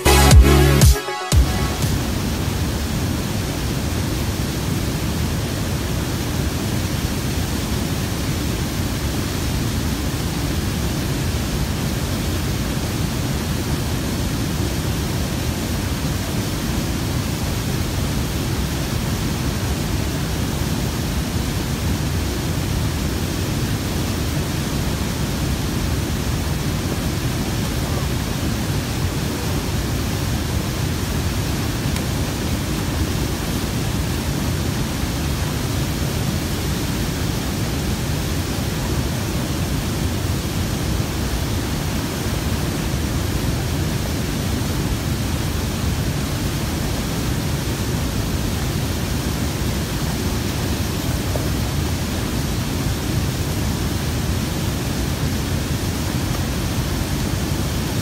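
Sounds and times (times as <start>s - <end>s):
water rushing through rapids: 1.5s - 58.0s.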